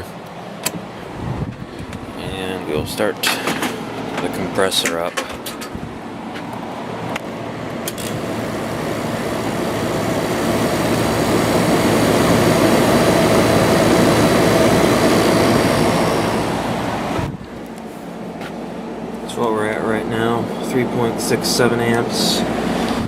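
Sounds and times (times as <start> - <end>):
air conditioner fan rush: 0.0 - 23.0
low compressor hum: 0.0 - 23.0.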